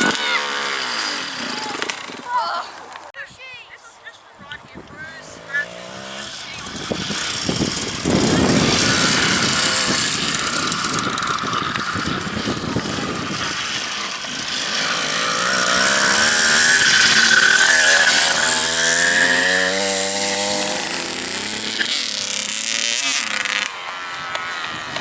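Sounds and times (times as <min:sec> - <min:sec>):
dirt bike engine revving: 0:00.0 - 0:03.2, 0:04.5 - 0:25.0.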